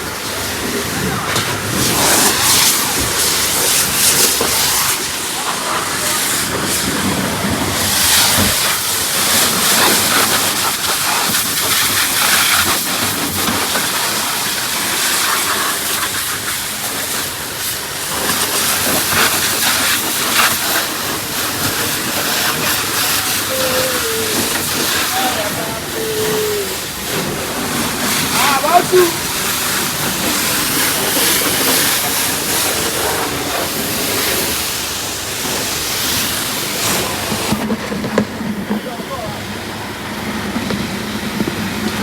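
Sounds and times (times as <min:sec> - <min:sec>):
water jet spraying: 0:00.0 - 0:37.7.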